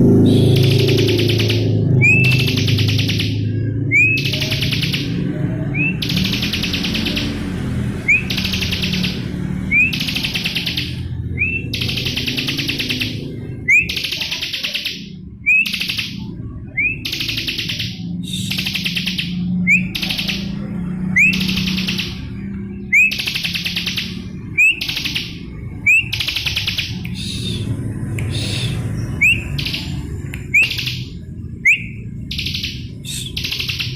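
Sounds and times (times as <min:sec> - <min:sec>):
bird singing whistles and trills: 0:00.0 - 0:33.9.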